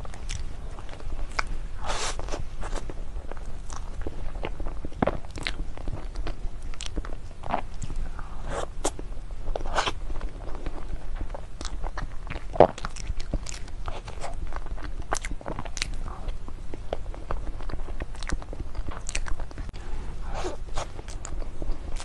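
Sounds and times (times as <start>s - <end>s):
close-miked chewing and lip smacks: 0.0s - 22.0s.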